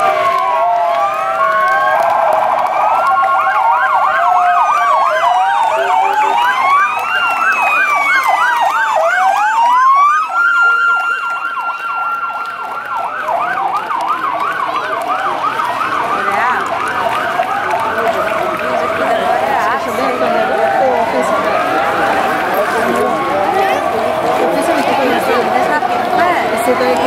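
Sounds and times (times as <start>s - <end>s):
police sirens yelping and wailing: 0.0s - 27.0s.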